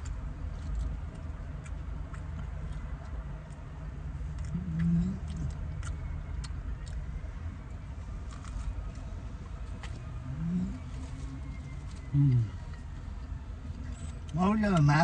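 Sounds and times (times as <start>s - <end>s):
low rising and falling hum: 0.0s - 14.3s.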